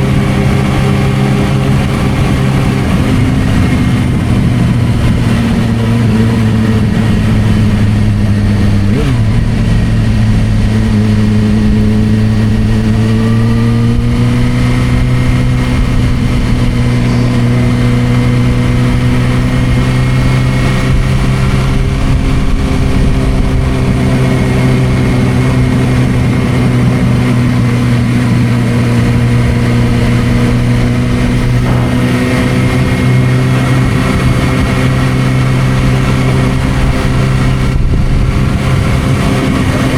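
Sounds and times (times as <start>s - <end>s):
motorcycle engine at cruising revs: 0.0s - 39.9s
wind noise: 0.0s - 39.9s.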